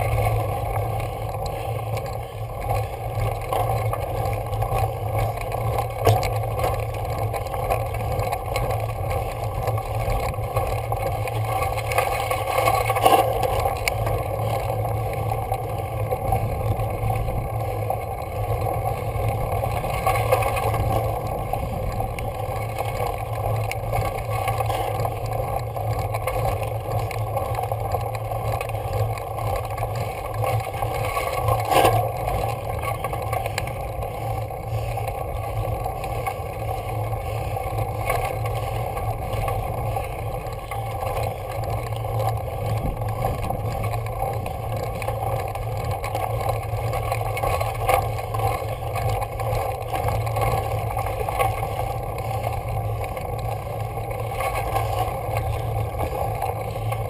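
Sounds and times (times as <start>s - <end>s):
wind and road rumble: 0.0s - 57.0s.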